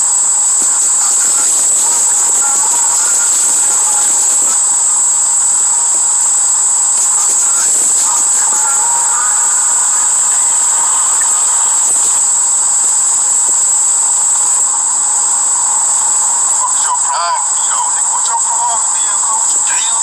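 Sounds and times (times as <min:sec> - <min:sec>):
faint muffled tones: 0:00.0 - 0:20.0
loud high-pitched hiss: 0:00.0 - 0:20.0.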